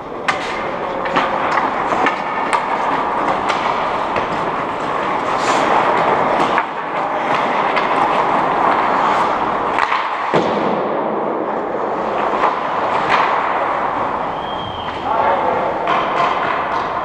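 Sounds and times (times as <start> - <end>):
hockey sticks and puck clicking: 0.0 - 17.0
skates scraping on ice: 0.0 - 17.0.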